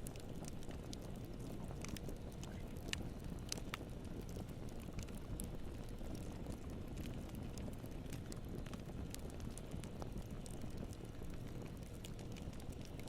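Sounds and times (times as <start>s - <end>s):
campfire flames rumbling: 0.0s - 13.0s
wood crackling and popping: 0.0s - 13.0s.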